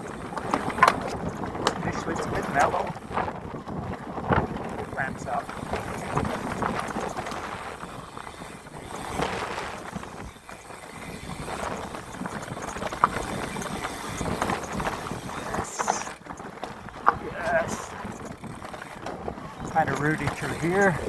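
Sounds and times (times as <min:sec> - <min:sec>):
bike frame rattling: 0:00.0 - 0:21.0
bike tyres rolling on dirt: 0:00.0 - 0:21.0
wheels knocking on roots: 0:00.0 - 0:21.0.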